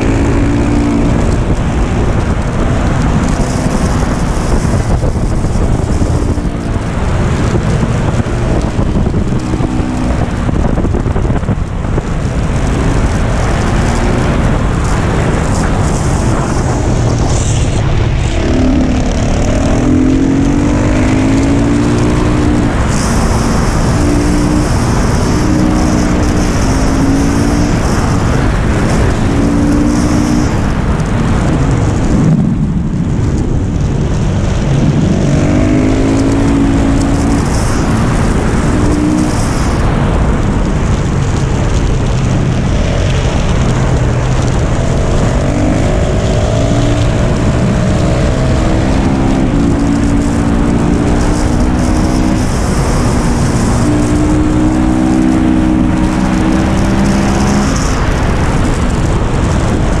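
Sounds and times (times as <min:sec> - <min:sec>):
motorcycle engine revving: 0:00.0 - 1:00.0
wind rush over microphone: 0:00.0 - 1:00.0.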